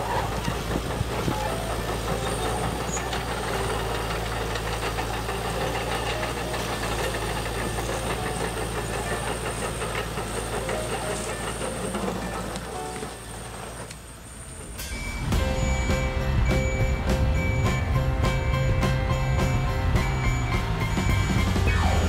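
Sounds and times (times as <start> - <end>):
model excavator engine idling: 0.0 - 22.0.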